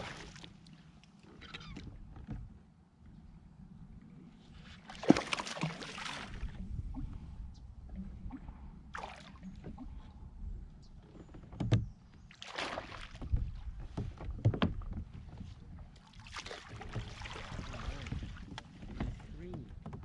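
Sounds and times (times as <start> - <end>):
water splashing around kayak: 0.0 - 2.7, 4.2 - 10.6, 11.2 - 20.0.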